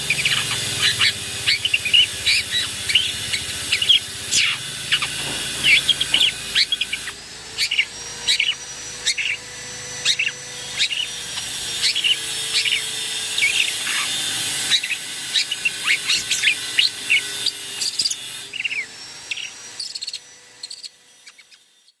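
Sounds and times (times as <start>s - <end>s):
bird chattering calls: 0.0s - 9.4s, 10.0s - 21.6s.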